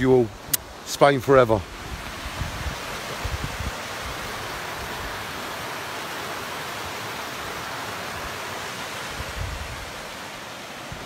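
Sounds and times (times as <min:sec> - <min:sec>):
river rushing over rapids: 0:00.1 - 0:11.0.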